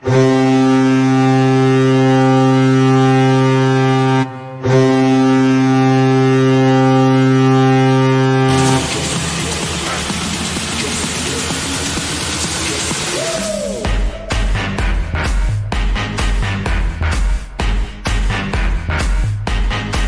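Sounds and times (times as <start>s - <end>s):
deep goal horn blast: 0.0s - 17.2s.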